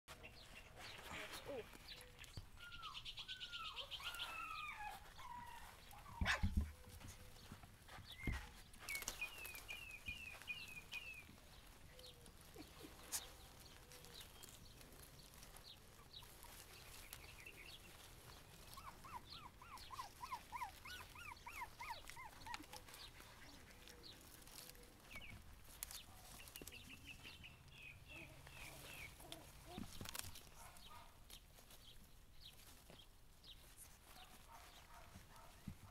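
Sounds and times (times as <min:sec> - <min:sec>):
puppies whimpering and squeaking: 0:00.2 - 0:25.8, 0:26.4 - 0:30.0.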